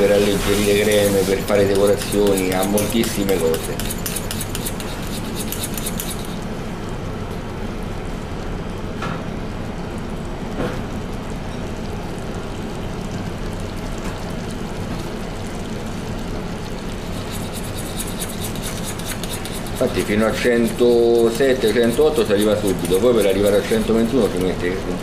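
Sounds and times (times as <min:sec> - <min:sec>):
syrup boiling with bubbling hiss: 0:00.0 - 0:25.0.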